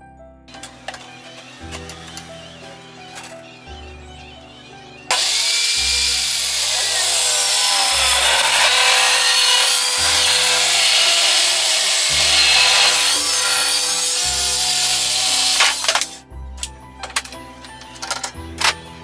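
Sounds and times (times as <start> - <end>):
table saw cutting wood: 0.5 - 19.0.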